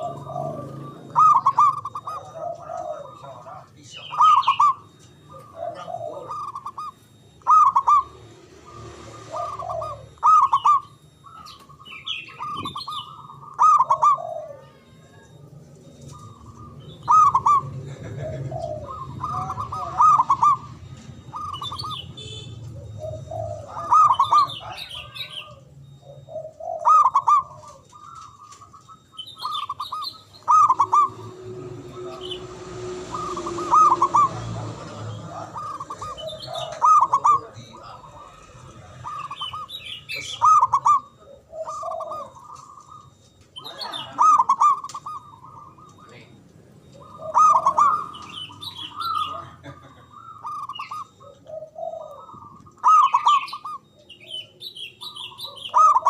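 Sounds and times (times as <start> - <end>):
dove cooing: 0.0 - 56.0
small birds chirping: 0.0 - 56.0.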